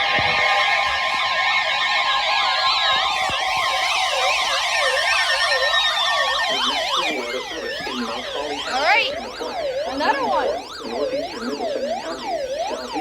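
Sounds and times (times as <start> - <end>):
electronic sirens sweeping: 0.0 - 13.0
steady alarm tones: 0.0 - 13.0.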